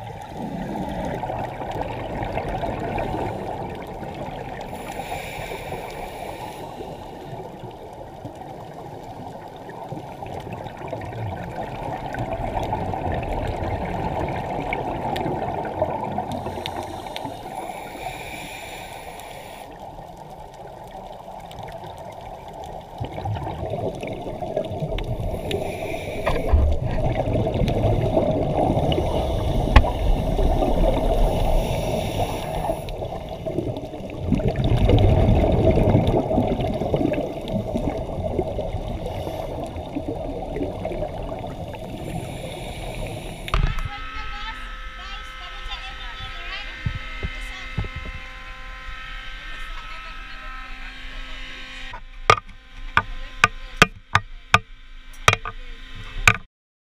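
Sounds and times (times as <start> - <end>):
muffled underwater rush: 0.0 - 49.7.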